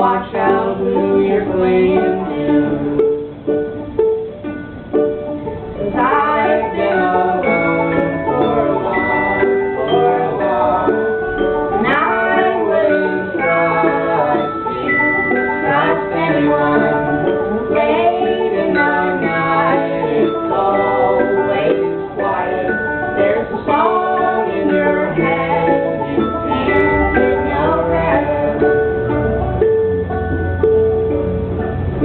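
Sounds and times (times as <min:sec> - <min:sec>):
person singing: 0:00.0 - 0:03.2, 0:05.8 - 0:29.0
ukulele-led band music: 0:00.0 - 0:32.0.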